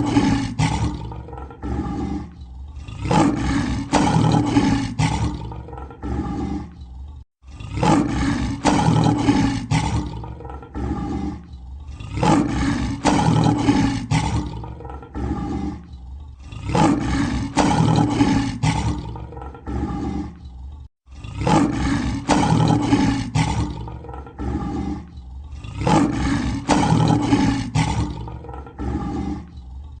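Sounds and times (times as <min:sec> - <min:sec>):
lion roaring: 0:00.0 - 0:30.0.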